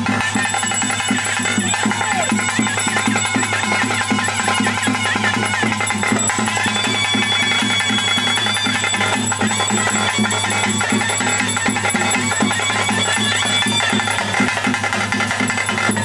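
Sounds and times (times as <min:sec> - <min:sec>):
drums fast steady beat: 0:00.0 - 0:16.0
reedy wind instrument melody: 0:00.0 - 0:16.0.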